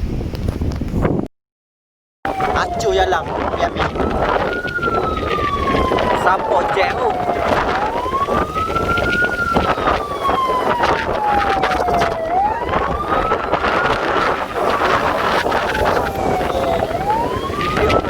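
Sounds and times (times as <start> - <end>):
wind buffeting microphone: 0.0 - 1.3, 2.3 - 18.0
wailing siren: 2.3 - 18.0.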